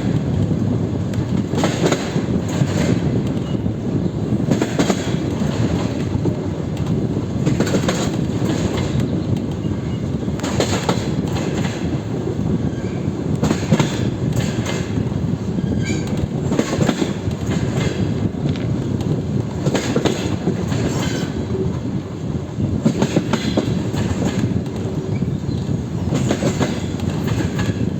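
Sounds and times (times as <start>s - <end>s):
train wheels clacking over rail joints: 0.0s - 3.7s, 4.4s - 27.9s
train running rumble: 0.0s - 27.9s.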